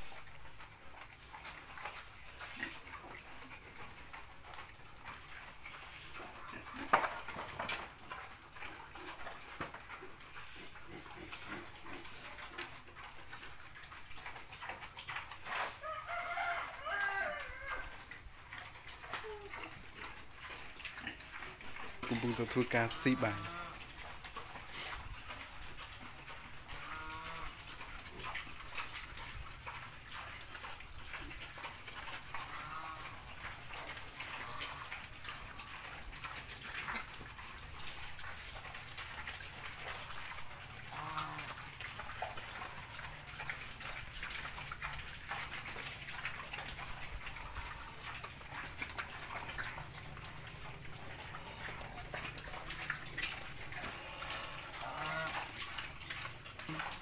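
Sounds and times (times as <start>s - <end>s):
pig chewing grass: 0.0s - 57.0s.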